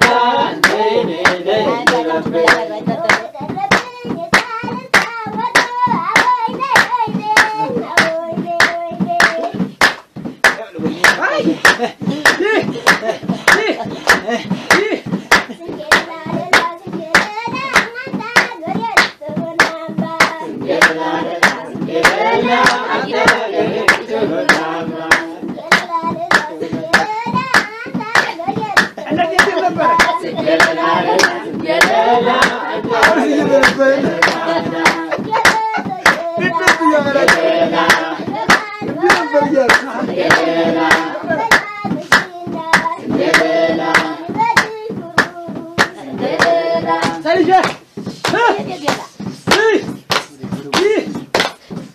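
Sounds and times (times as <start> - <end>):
voices singing together: 0.0 - 51.4
rhythmic hand clapping: 0.0 - 51.9.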